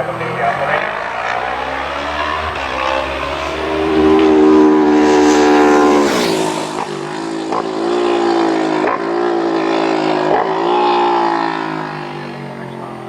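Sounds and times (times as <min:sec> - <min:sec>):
racing motorcycle engine: 0:00.0 - 0:13.0.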